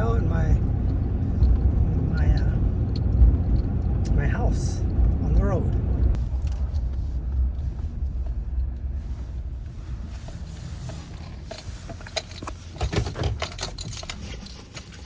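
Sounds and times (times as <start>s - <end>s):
truck road rumble from cab: 0.0s - 15.0s.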